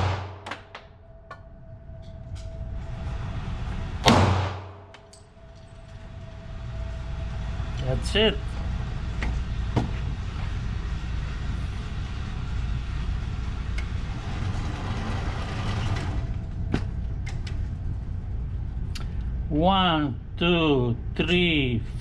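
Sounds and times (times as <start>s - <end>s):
low rumble: 0.0s - 22.0s
target carrier motor running: 0.0s - 22.0s.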